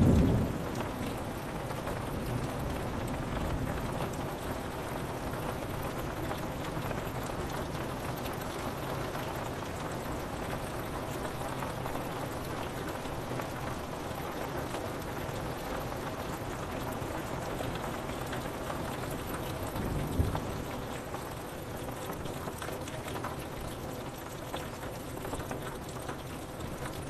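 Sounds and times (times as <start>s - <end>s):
rain on a window: 0.0s - 27.0s.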